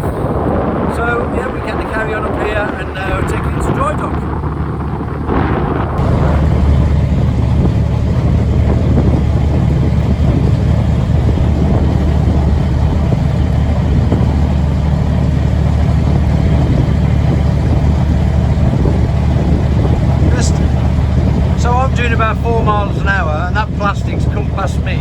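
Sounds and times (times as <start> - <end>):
boat diesel engine drone: 0.0 - 25.0.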